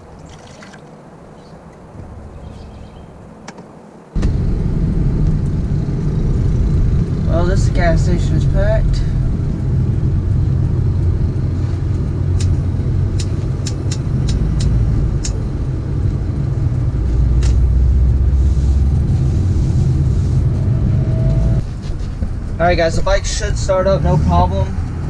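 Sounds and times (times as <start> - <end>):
engine and road rumble in cab: 1.3 - 25.0.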